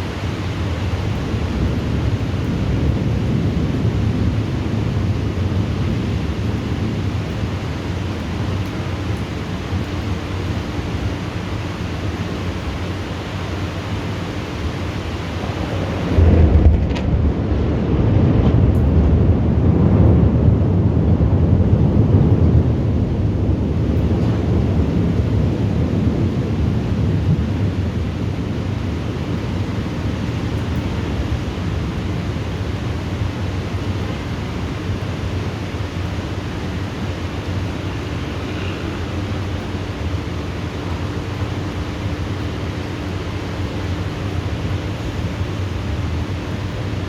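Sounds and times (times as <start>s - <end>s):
steady rain: 0.0s - 47.0s
thunder rumbling: 0.2s - 47.0s.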